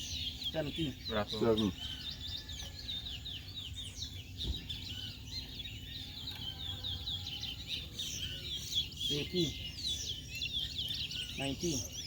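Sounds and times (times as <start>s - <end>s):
finch singing whistled notes: 0.0s - 12.0s.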